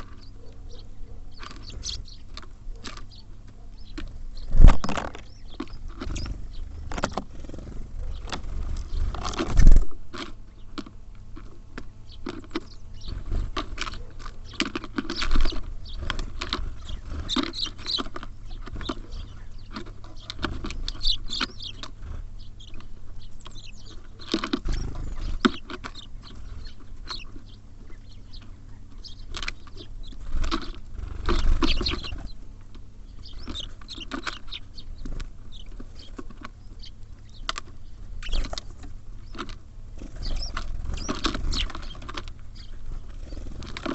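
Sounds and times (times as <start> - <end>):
birds knocking and pecking at feeder: 0.0 - 43.9.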